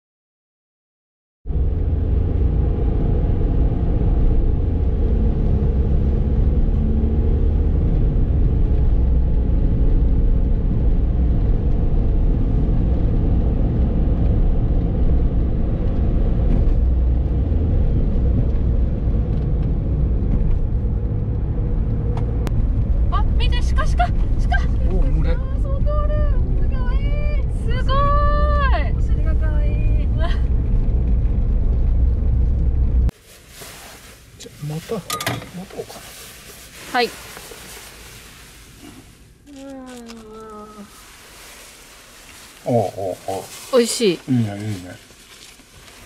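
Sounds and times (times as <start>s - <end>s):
car road and engine rumble: 1.4s - 46.0s.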